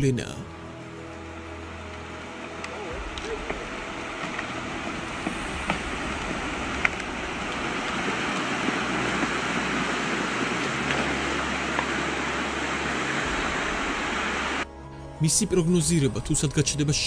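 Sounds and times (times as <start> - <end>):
muddy water rushing: 0.6 - 14.7.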